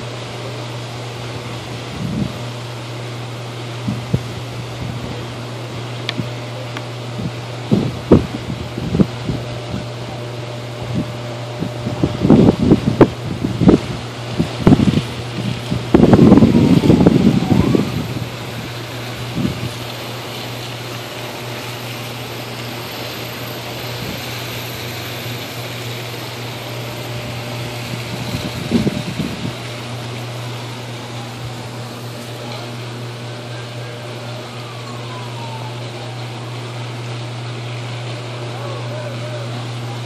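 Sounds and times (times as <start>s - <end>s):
electrical arcing buzz and hiss: 0.0s - 34.7s.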